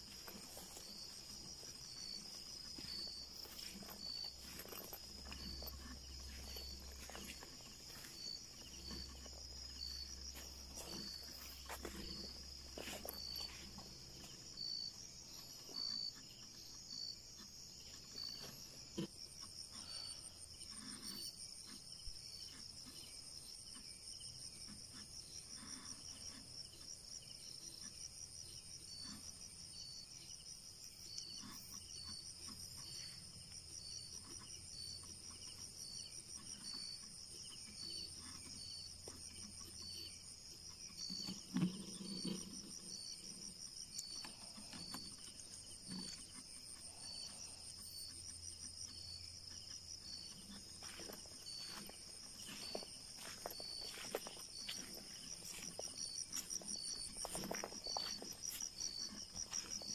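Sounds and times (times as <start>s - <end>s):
higher insect trill: 0.0s - 24.2s, 27.7s - 59.9s
insect chirping: 0.0s - 59.9s
insects trilling: 0.0s - 59.9s.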